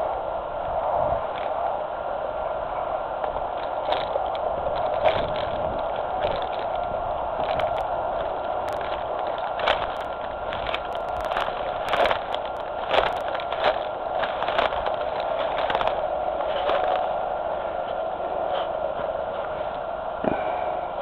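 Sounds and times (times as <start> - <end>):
steady hiss: 0.0 - 21.0
footsteps through undergrowth: 3.2 - 20.5.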